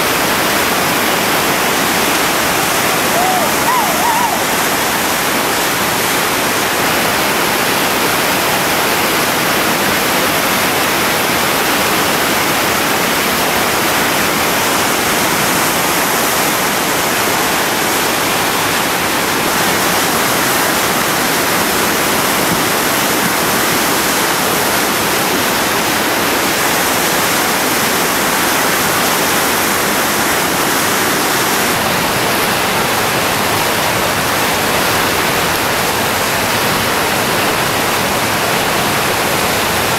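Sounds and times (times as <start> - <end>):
rushing whitewater: 0.0 - 39.9.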